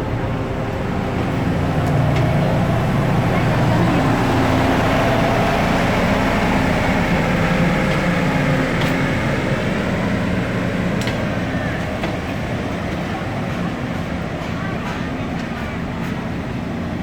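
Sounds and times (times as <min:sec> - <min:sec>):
diesel train engine rumble: 0:00.0 - 0:17.0.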